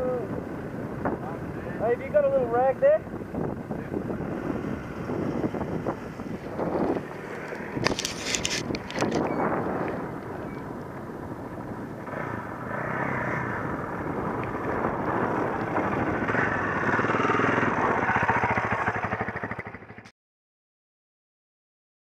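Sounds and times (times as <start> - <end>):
dirt bike engines running: 0.0 - 20.1.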